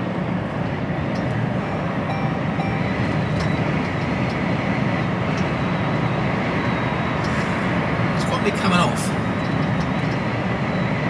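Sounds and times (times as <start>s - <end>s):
lorry engine and road noise: 0.0s - 11.0s.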